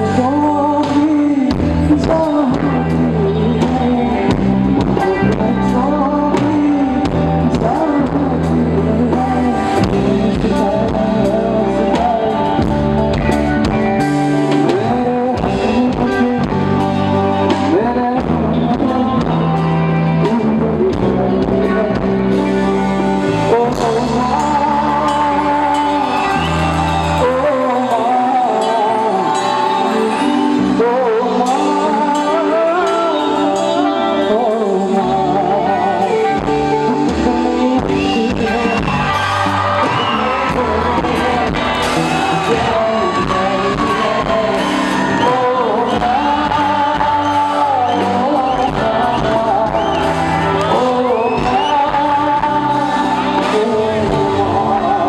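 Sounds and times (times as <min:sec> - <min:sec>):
bass: 0:00.0 - 0:55.0
drums: 0:00.0 - 0:55.0
electric guitar: 0:00.0 - 0:55.0
man singing: 0:00.0 - 0:55.0.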